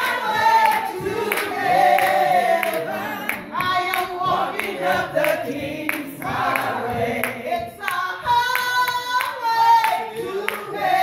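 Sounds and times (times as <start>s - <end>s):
hands clapping on the beat: 0.0s - 11.0s
woman singing gospel: 0.0s - 11.0s.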